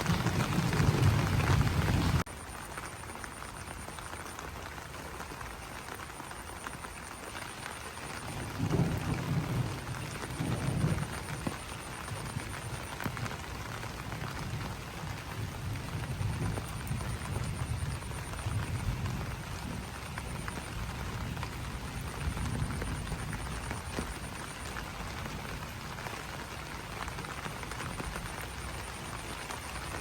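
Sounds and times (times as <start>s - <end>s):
rain pattering on leaves: 0.0s - 30.0s.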